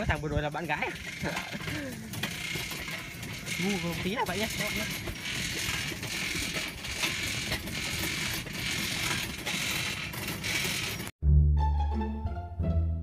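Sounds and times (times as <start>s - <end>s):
pedal car rattling and clicking: 0.0s - 11.1s.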